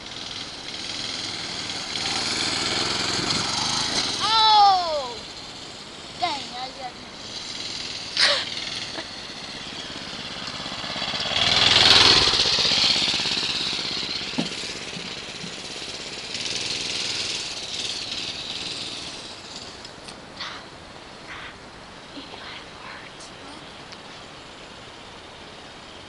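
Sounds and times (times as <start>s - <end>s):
dirt bike engine buzzing: 0.0s - 20.3s, 23.6s - 26.0s.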